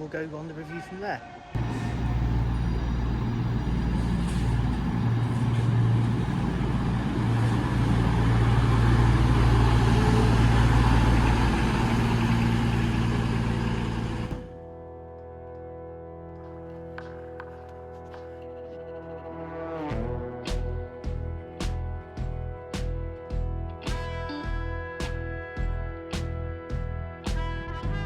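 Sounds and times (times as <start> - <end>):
diesel train engines droning: 0.0 - 15.1, 17.0 - 28.0.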